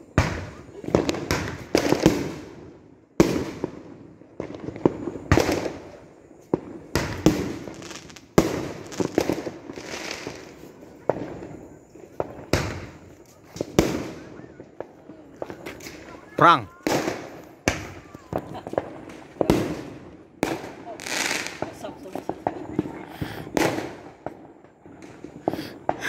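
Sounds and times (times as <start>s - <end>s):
fireworks exploding: 0.0s - 26.0s.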